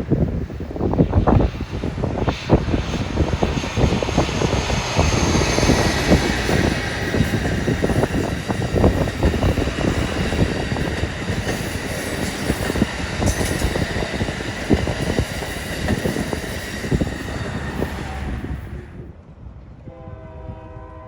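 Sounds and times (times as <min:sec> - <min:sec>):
train wheels clattering over rails: 0:00.1 - 0:19.0.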